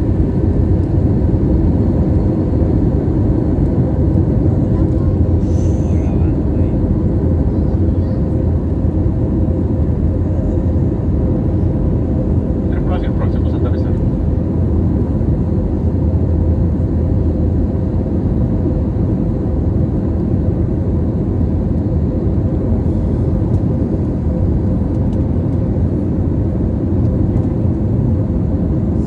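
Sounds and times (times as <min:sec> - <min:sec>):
jet engine drone and rushing air: 0:00.0 - 0:29.0.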